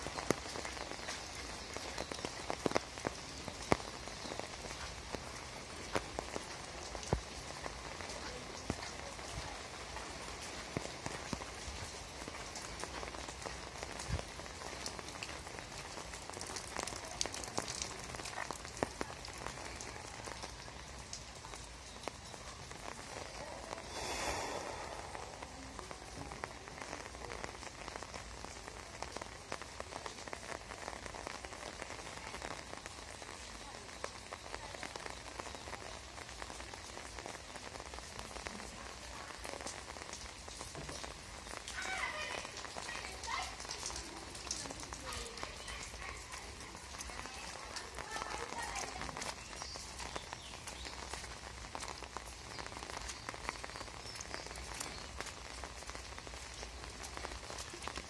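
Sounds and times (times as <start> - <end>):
raindrops landing close by: 0.0 - 58.0
steady rain falling: 0.0 - 58.0.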